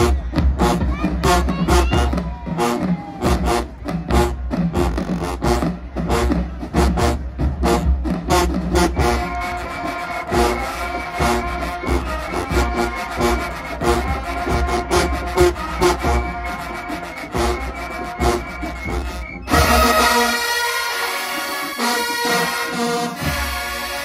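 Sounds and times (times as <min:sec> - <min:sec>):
horns holding chords: 0:00.0 - 0:24.0
marching band percussion beat: 0:00.0 - 0:24.0.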